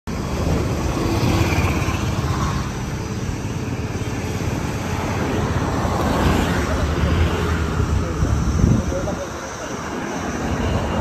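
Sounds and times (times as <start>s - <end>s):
motorcycle engines idling: 0.1s - 11.0s.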